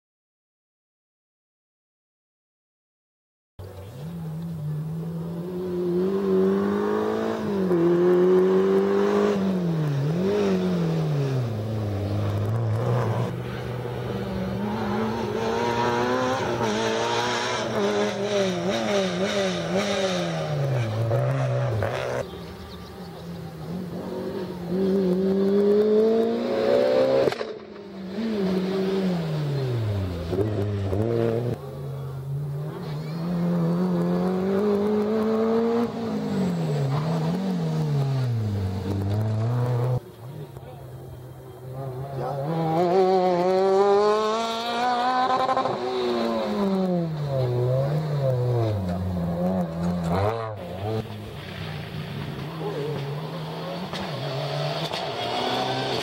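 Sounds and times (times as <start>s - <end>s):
rally car engines revving: 3.6s - 56.0s.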